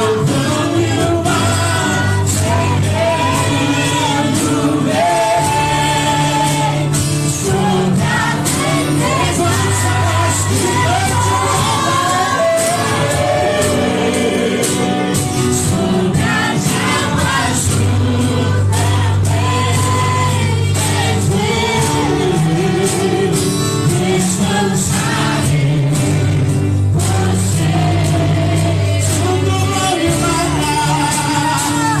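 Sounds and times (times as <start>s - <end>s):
group of voices singing: 0.0s - 32.0s
worship song played by band: 0.0s - 32.0s.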